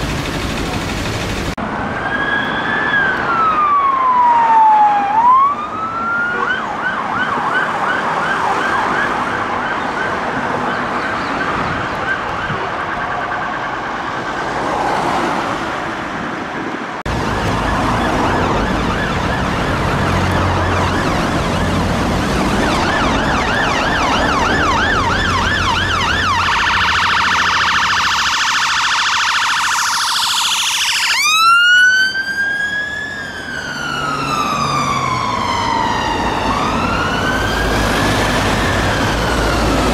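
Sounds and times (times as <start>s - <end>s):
traffic rumble: 0.0s - 39.9s
ambulance siren: 1.6s - 15.5s, 17.1s - 39.9s
fast-warbling siren: 1.8s - 14.7s, 17.1s - 39.9s.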